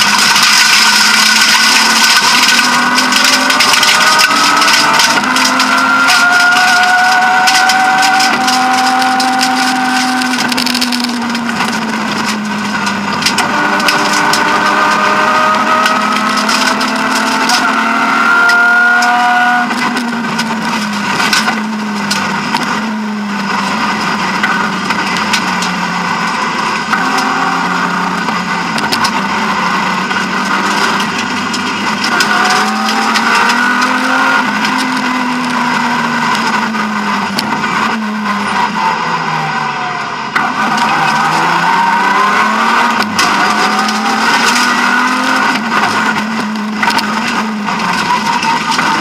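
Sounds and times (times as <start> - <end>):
car engine revving hard: 0.0 - 49.0.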